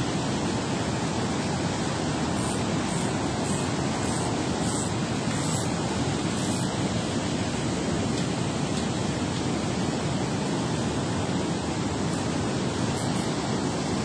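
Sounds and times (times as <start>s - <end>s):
water rushing through spillway: 0.0s - 14.0s.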